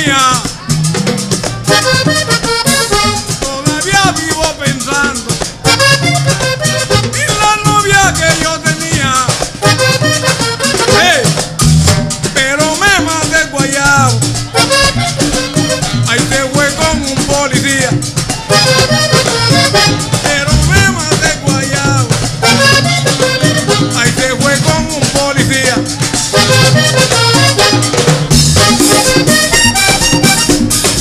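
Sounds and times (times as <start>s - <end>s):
button accordion melody: 0.0s - 31.0s
hand drums: 0.0s - 31.0s
scraped percussion rhythm: 0.0s - 31.0s.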